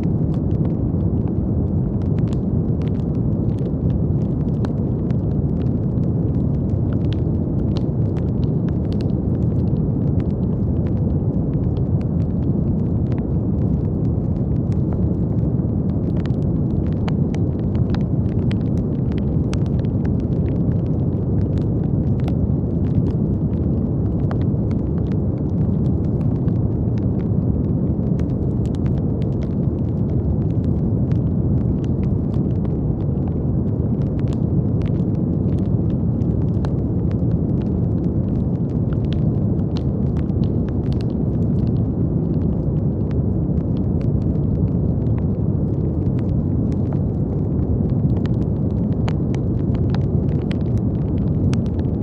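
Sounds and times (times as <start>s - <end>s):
brown noise hiss: 0.0s - 52.0s
faint crackling clicks: 0.1s - 52.0s.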